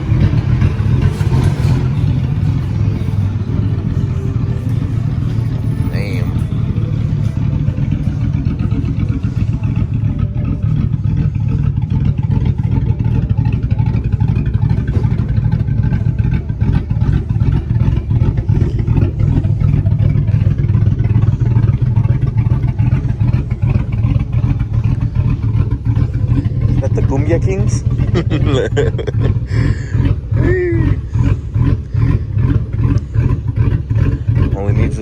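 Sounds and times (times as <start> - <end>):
engine lifter clicking: 0.0 - 35.0
truck engine idling: 0.0 - 35.0.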